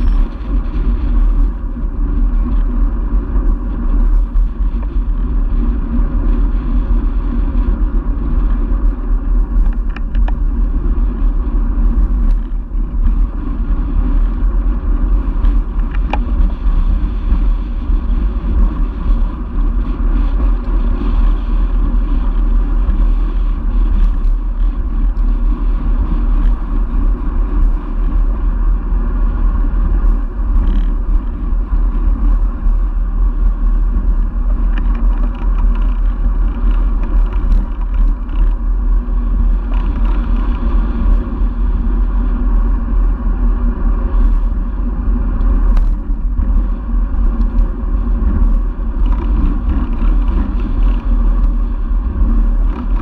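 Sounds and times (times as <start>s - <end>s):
road rumble: 0.0s - 53.0s
wind rush on microphone: 0.0s - 53.0s.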